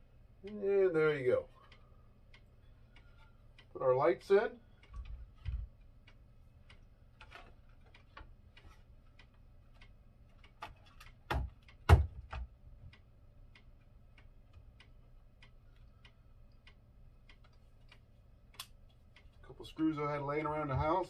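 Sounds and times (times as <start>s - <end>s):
faint steady ticking: 0.0s - 21.0s.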